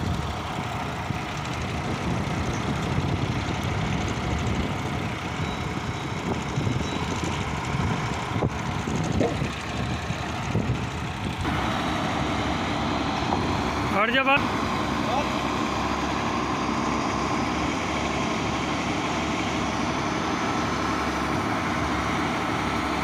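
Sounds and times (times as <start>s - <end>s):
diesel engines running: 0.0s - 23.0s.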